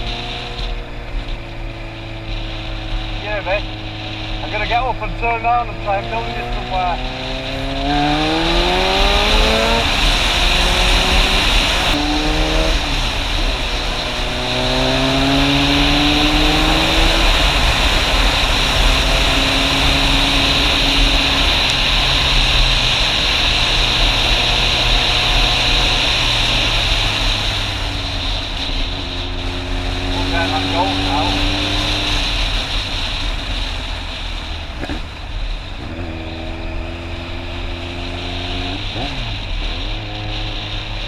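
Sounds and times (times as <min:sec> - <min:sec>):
motorcycle engine accelerating: 0:00.0 - 0:41.0
riding wind noise: 0:00.0 - 0:41.0.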